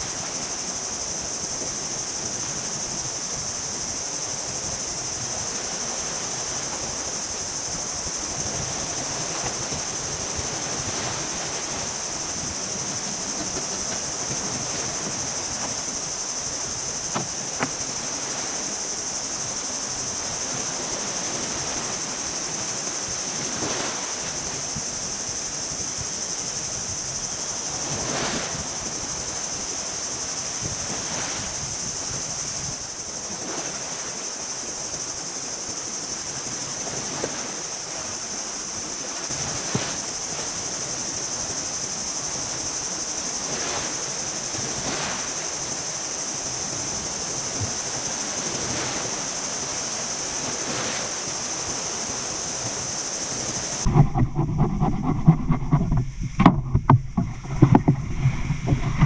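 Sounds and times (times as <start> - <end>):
high-pitched insect drone: 0.0 - 53.9
sea surf: 0.0 - 59.0.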